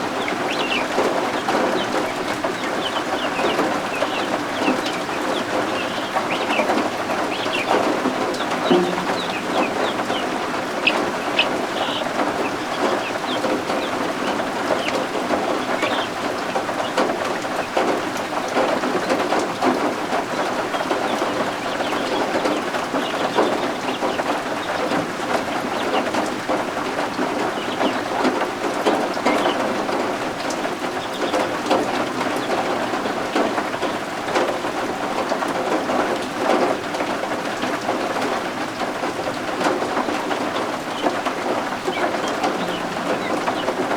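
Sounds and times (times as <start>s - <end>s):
steady rain patter: 0.0s - 43.9s
baby guinea fowl peeping: 0.1s - 34.5s, 39.6s - 43.9s.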